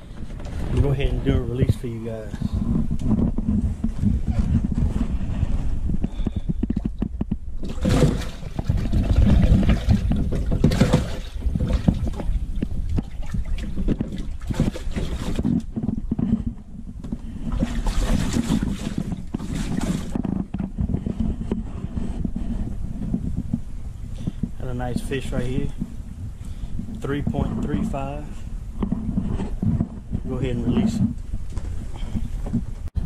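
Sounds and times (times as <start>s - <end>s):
water sloshing and splashing: 0.0s - 28.2s
steady low rumble: 0.0s - 33.0s.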